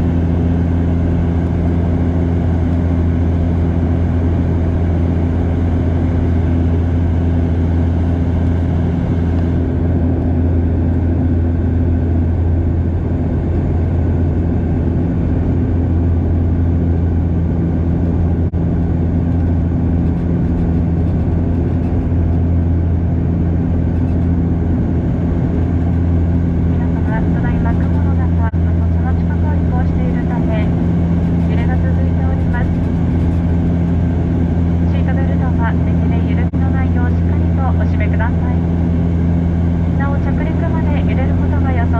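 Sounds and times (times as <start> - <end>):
turboprop engines droning in cabin: 0.0 - 41.9.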